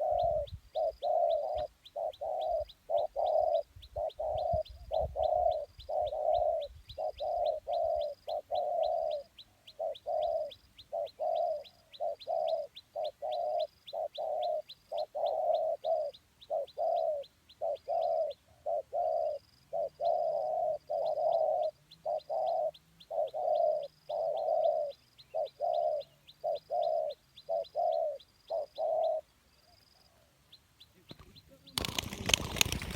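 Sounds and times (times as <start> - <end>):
dove cooing: 0.0 - 30.3.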